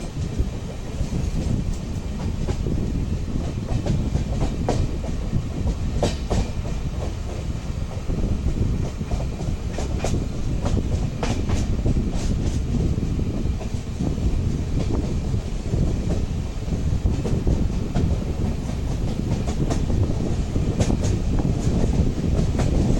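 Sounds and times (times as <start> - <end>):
train rumbling: 0.0 - 22.9
train wheels clicking over rail joints: 0.0 - 22.9.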